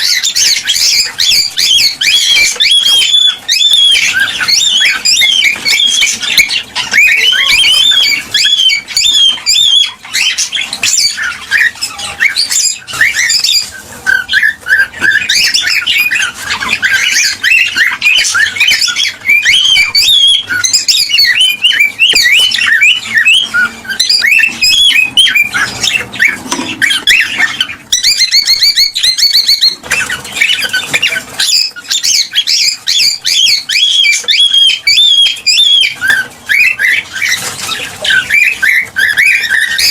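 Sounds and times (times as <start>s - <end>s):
bird trilling: 0.0s - 39.9s
cockatiels chirping and squawking: 0.0s - 39.9s.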